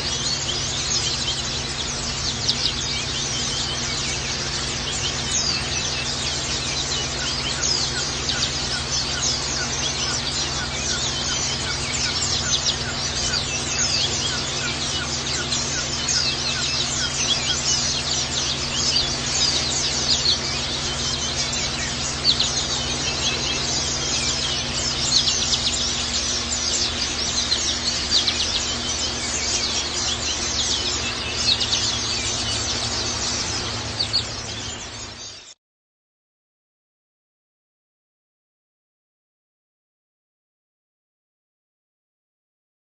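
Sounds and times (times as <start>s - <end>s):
birds chirping and twittering: 0.0s - 35.6s
steady low hum: 0.0s - 35.6s.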